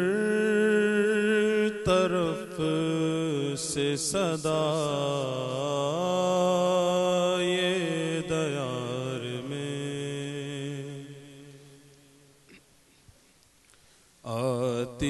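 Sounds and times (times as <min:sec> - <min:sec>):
man singing: 0:00.0 - 0:11.8, 0:14.2 - 0:15.0.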